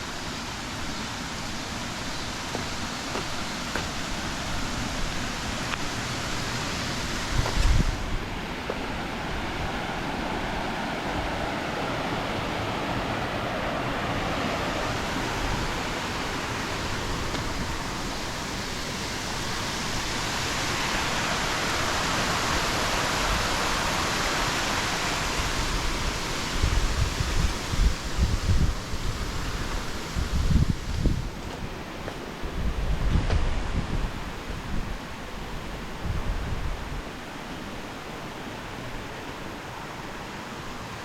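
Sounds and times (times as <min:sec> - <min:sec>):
mountain stream rushing: 0:00.0 - 0:41.0.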